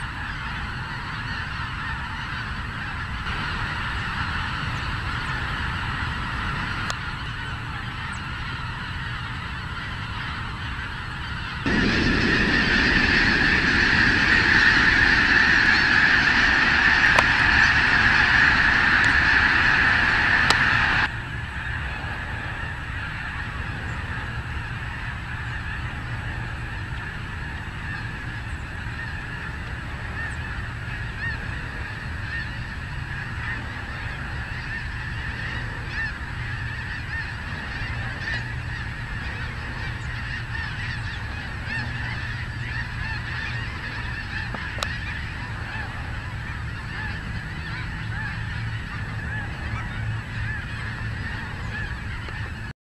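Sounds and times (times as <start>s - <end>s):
geese honking: 0.0s - 52.7s.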